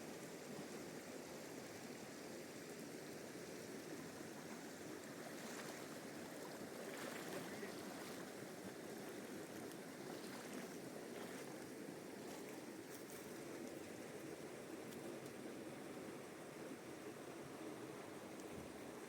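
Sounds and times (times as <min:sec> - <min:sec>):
faint rushing river water: 0:00.0 - 0:19.0.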